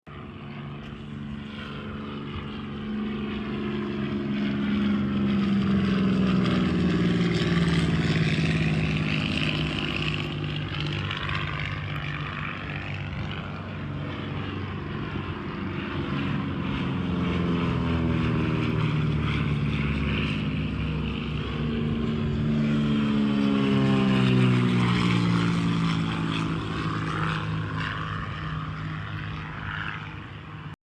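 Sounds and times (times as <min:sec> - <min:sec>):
propeller airplane flying over: 0:00.0 - 0:30.8.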